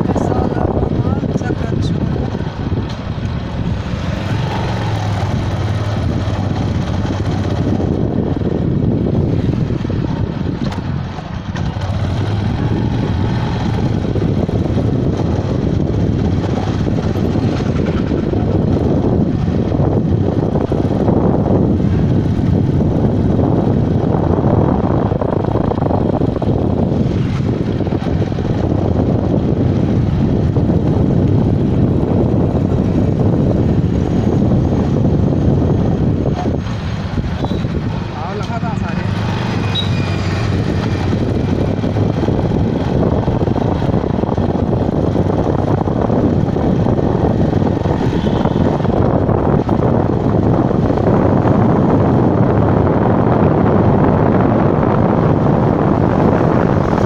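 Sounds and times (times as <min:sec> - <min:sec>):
motorcycle engine hum: 0:00.0 - 0:57.0
wind noise on microphone: 0:00.0 - 0:57.0.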